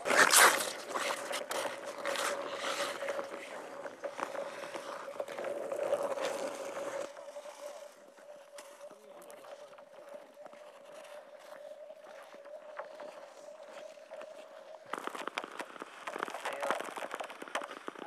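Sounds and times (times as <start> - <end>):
ice skates scraping on ice: 0.0 - 18.0.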